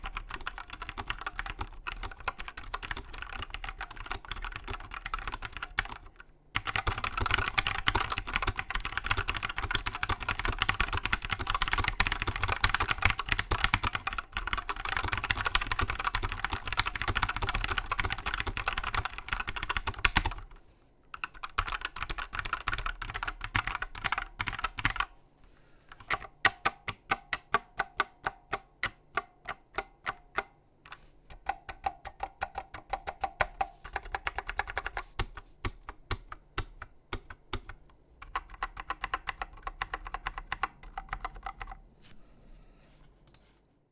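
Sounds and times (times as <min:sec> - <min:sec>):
mechanical keyboard typing: 0:00.0 - 0:25.1, 0:25.9 - 0:41.8.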